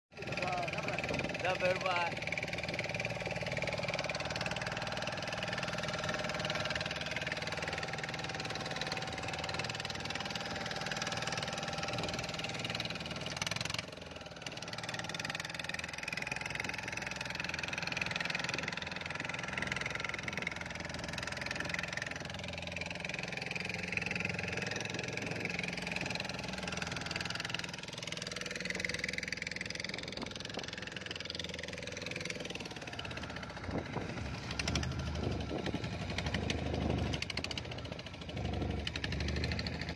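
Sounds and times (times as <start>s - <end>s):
boat engine running: 0.1s - 39.9s.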